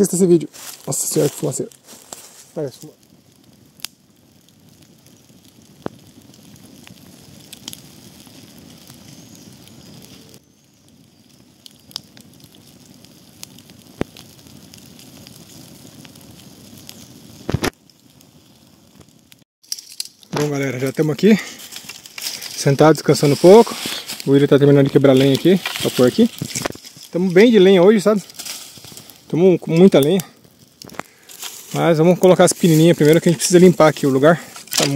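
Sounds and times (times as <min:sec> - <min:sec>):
campfire hissing: 0:00.0 - 0:34.9
fire popping and crackling: 0:00.0 - 0:34.9.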